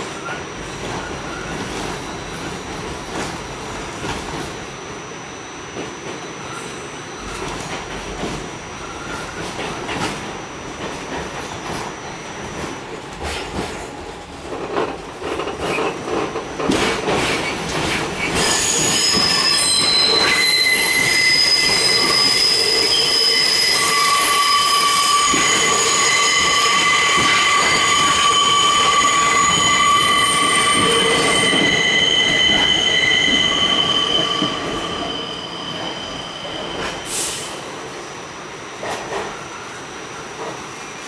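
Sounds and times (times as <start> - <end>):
train car rumble: 0.0 - 40.7
subway wheels squealing on rails: 0.0 - 41.0.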